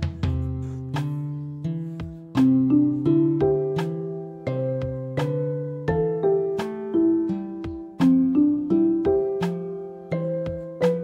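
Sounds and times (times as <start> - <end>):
slow plucked tune: 0.0 - 11.0.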